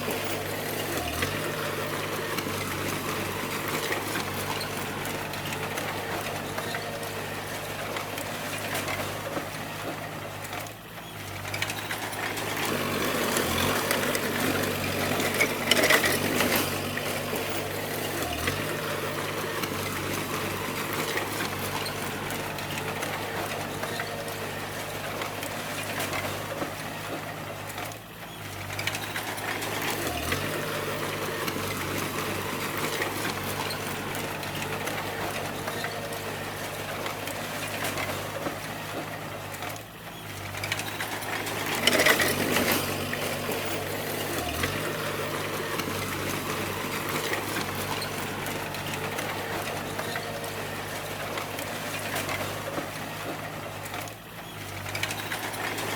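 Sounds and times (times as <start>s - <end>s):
bulldozer diesel engine clattering: 0.0s - 55.9s.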